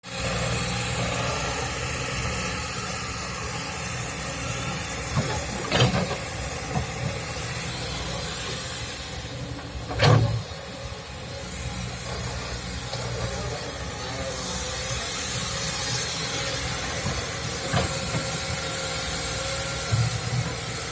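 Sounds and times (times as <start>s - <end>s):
excavator diesel engine running: 0.1s - 20.9s.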